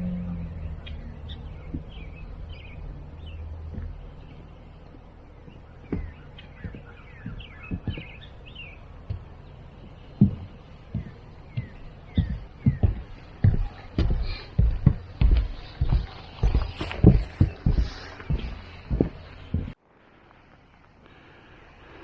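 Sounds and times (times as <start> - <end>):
footsteps on a trail: 0.0 - 21.3
small birds chirping: 0.0 - 22.0.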